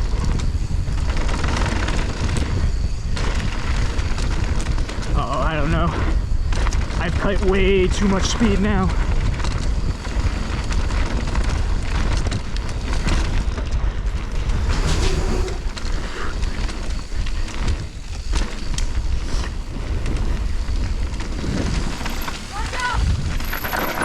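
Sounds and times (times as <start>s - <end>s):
bike clicks and rattles: 0.0s - 24.0s
tyre noise on dirt: 0.0s - 24.0s
wind rumbling on microphone: 0.0s - 24.0s.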